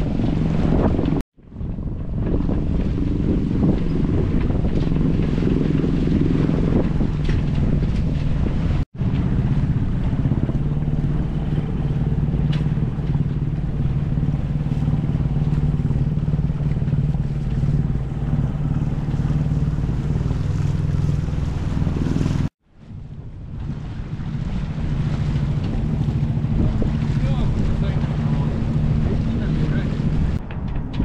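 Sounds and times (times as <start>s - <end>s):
boat engine droning: 0.0s - 31.0s
water noise: 0.0s - 31.0s
wind: 0.0s - 31.0s.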